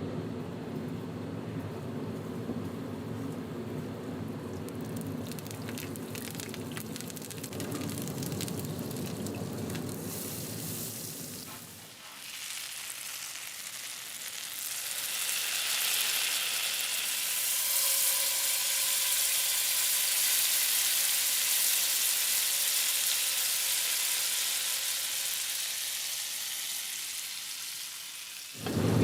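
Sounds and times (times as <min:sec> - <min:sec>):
hot oil sizzling in a pot: 0:04.7 - 0:29.0.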